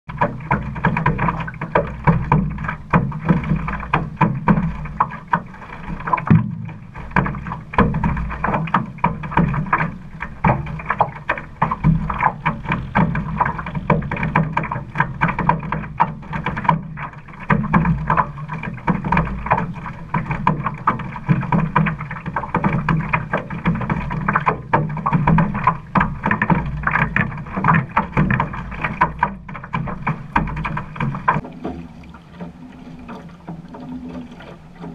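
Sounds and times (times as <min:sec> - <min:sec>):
water splashing along canoe hull: 0:00.0 - 0:34.9.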